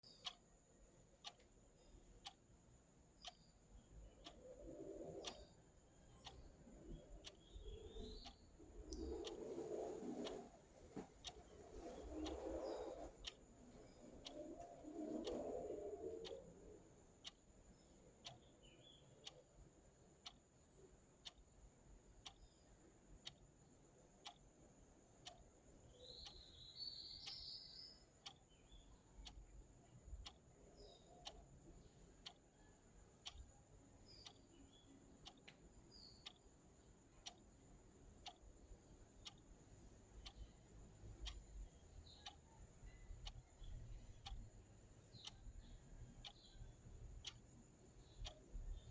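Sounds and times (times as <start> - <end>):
clock ticking: 0.0 - 48.9.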